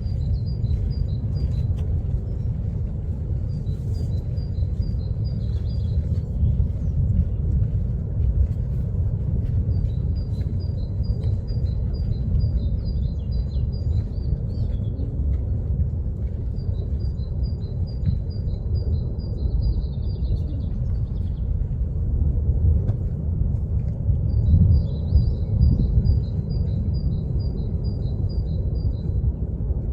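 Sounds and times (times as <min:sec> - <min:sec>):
deep rumble of lava fountain: 0:00.0 - 0:29.9.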